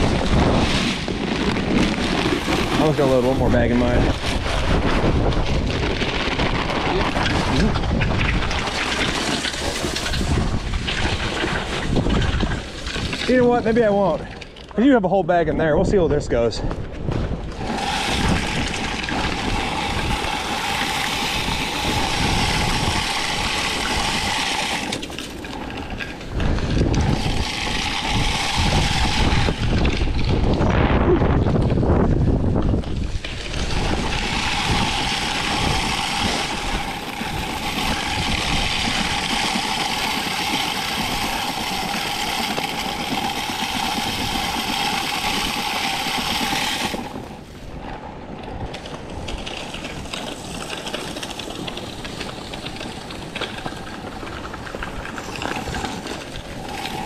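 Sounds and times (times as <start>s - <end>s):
salt spreader hiss and rattle: 0.0s - 15.4s, 17.4s - 57.0s
wind buffeting microphone: 0.0s - 57.0s.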